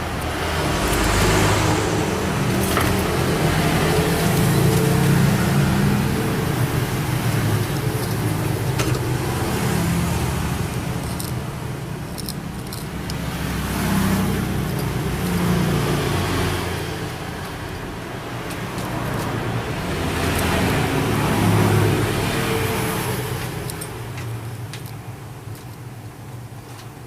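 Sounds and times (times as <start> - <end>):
vehicles passing: 0.0 - 27.0.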